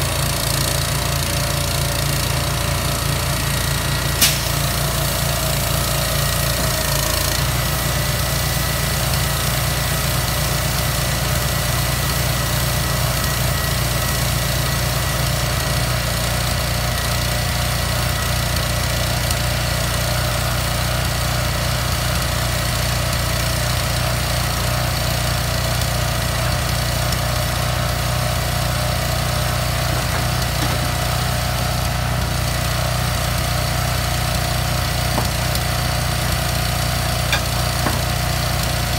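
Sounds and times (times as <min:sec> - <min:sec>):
diesel truck engine running: 0:00.0 - 0:16.9, 0:23.8 - 0:38.9.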